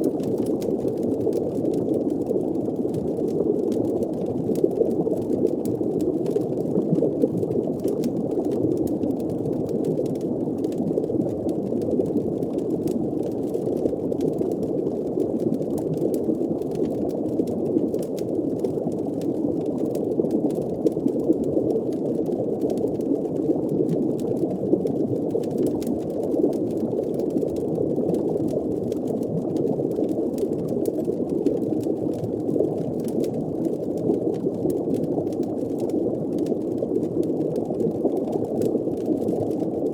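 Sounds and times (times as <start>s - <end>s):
underwater bubbling rumble: 0.0s - 39.9s.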